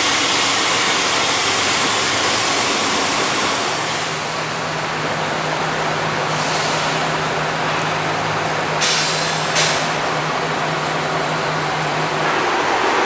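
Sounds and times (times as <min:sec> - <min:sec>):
bus engine idling: 0:00.0 - 0:13.0
loud steady rushing noise: 0:00.0 - 0:13.0.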